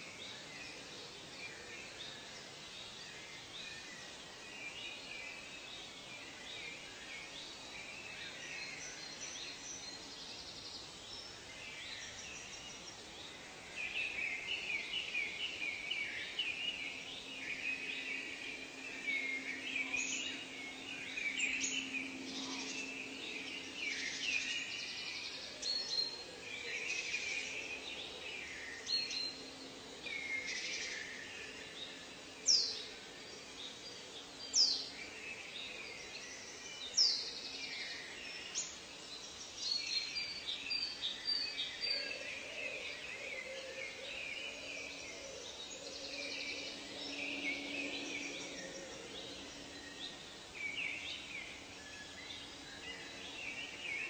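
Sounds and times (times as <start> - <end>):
birds chirping and trilling: 0.0 - 54.0
faint low hum: 0.0 - 54.0.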